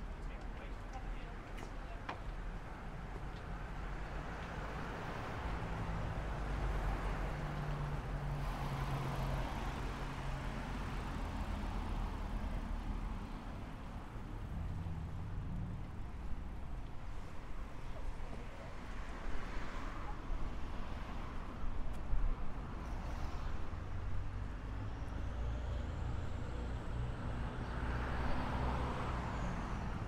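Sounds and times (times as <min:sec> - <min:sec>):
vehicles driving past: 0:00.0 - 0:30.0.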